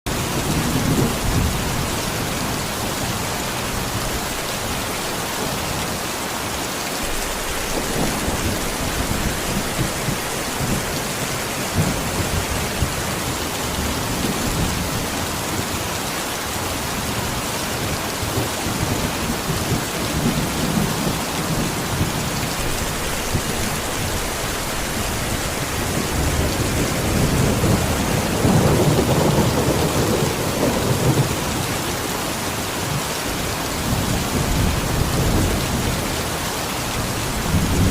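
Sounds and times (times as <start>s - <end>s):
heavy rain: 0.1s - 37.9s.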